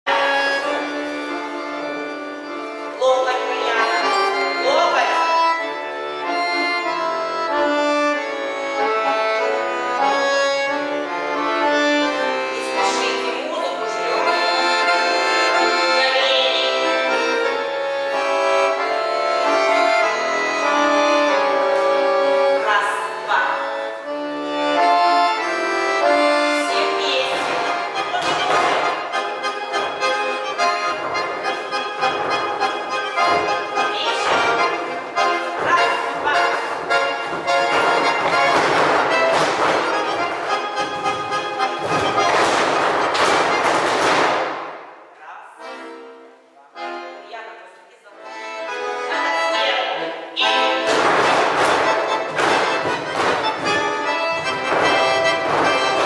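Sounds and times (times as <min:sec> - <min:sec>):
accordion folk tune: 0:00.0 - 0:56.0.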